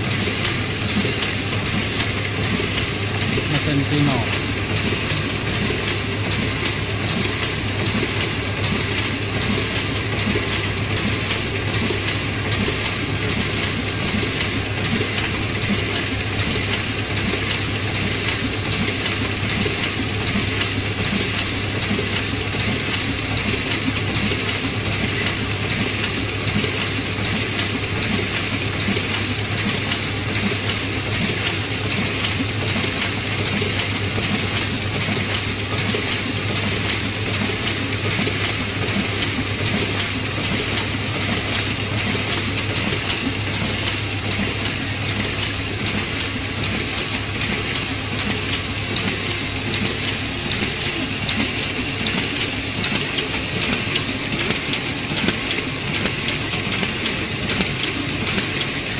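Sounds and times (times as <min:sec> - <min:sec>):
printing press clattering: 0:00.0 - 0:58.9.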